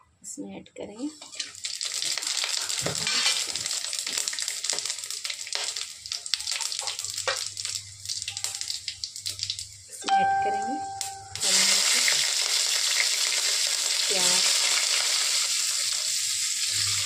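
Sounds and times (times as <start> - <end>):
spices sizzling and crackling in oil: 1.1 - 17.0.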